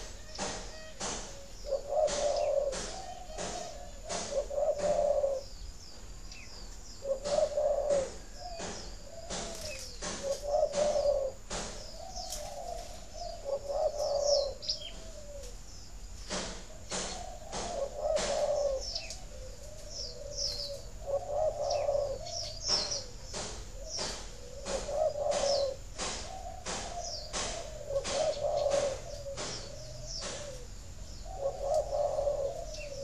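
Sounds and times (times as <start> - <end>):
doves cooing: 0.0 - 5.6, 7.0 - 15.7, 16.5 - 33.0
small birds chirping: 0.0 - 33.0.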